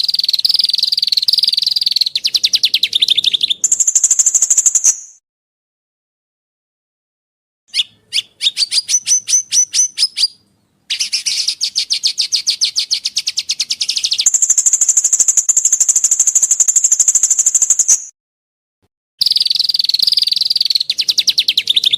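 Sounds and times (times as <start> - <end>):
quick rising bird chirps: 0.0 - 5.2, 7.7 - 18.1, 19.2 - 21.9
rapid bird trill: 0.0 - 5.2, 7.7 - 18.2, 19.2 - 21.9.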